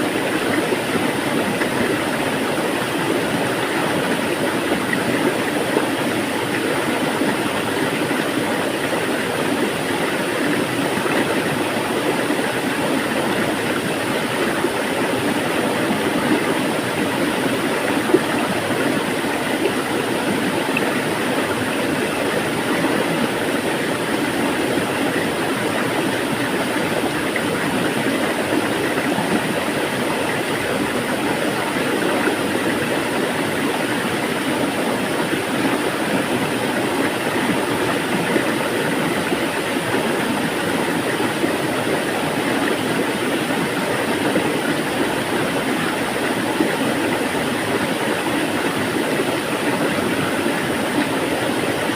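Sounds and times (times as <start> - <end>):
water flowing: 0.0 - 51.9.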